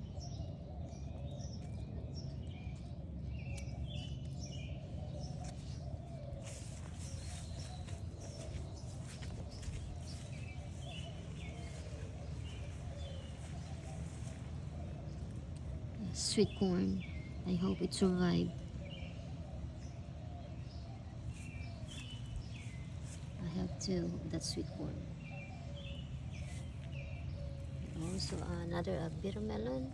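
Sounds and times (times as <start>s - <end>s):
low outdoor background hum: 0.0s - 29.9s
small birds chirping: 0.0s - 29.9s.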